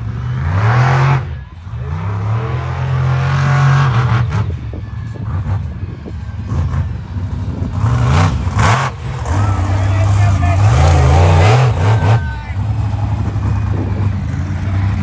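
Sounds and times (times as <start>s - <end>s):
monster truck engine revving: 0.0s - 4.6s, 6.5s - 15.0s.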